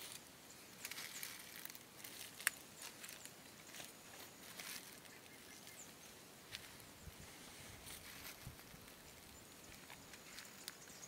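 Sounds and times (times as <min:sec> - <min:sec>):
footsteps crunching on dry leaves: 0:00.0 - 0:11.0.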